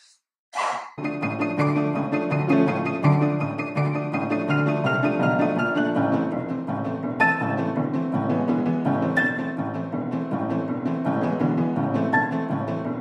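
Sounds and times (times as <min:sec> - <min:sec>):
piano: 0:01.0 - 0:13.0.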